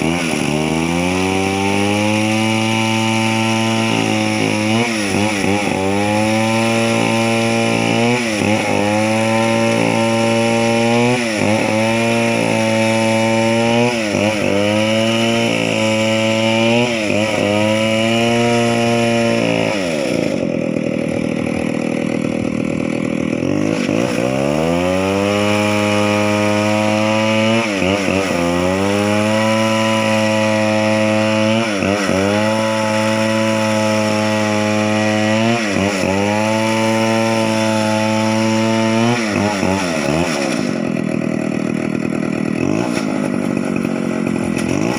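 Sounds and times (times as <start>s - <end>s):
chainsaw engine running: 0.0s - 44.9s.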